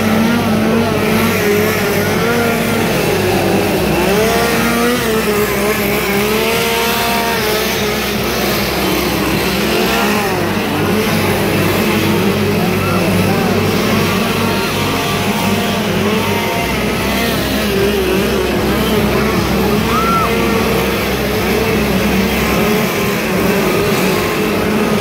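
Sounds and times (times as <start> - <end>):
chainsaw engines revving: 0.0 - 25.0.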